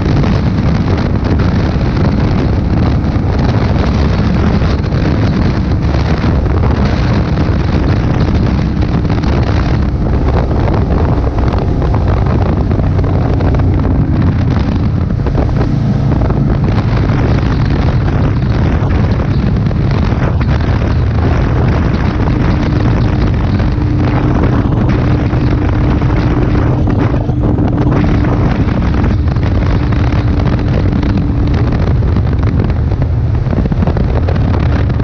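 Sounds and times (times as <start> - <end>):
motorcycle engine cruising: 0.0 - 35.0
wind rushing over microphone: 0.0 - 35.0.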